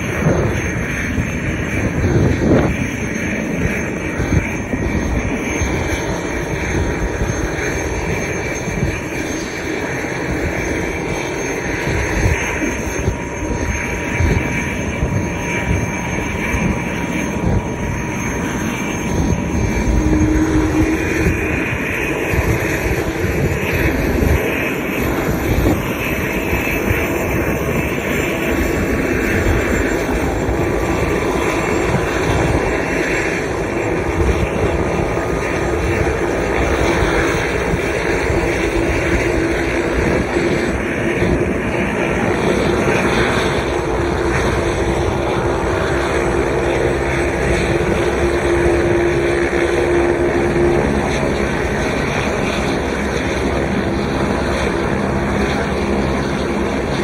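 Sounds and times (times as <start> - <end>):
helicopter engine and rotor rumble: 0.0 - 57.0
high turbine whine: 0.0 - 57.0.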